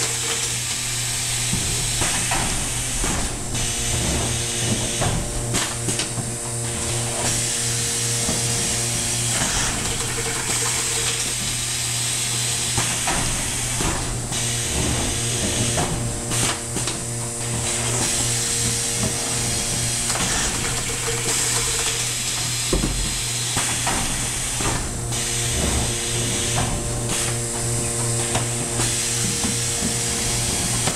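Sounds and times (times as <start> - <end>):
machine electric hum and whine: 0.0 - 30.9.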